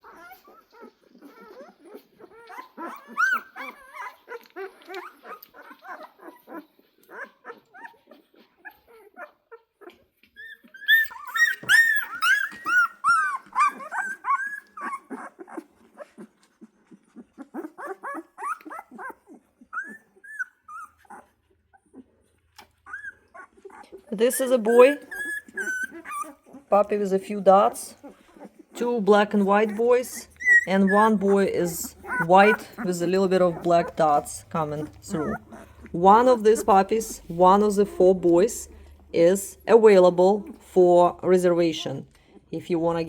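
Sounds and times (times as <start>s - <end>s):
puppies whimpering and yelping: 0.0s - 42.5s.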